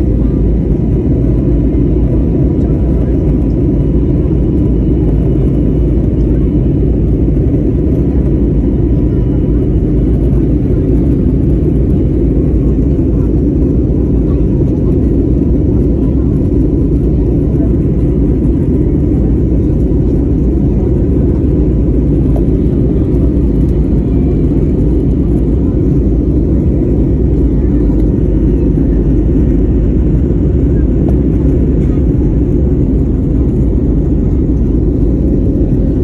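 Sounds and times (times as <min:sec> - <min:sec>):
jet engines rumbling at takeoff: 0:00.0 - 0:36.0.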